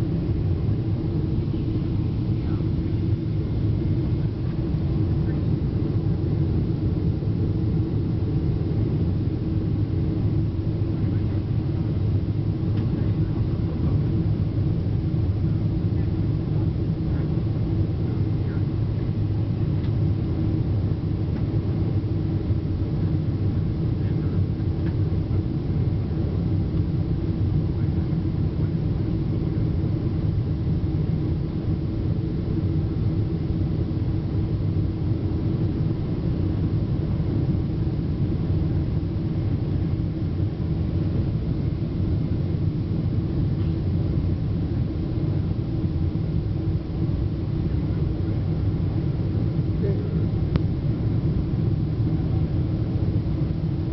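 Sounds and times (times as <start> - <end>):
airplane cabin engine and airflow rumble: 0.0 - 53.9.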